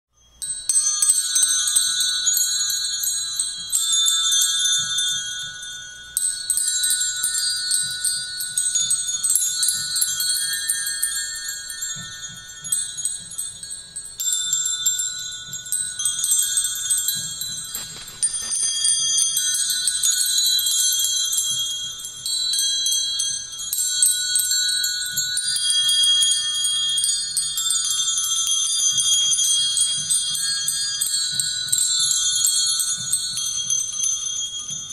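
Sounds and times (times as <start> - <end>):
metal chimes ringing: 0.2 - 34.9.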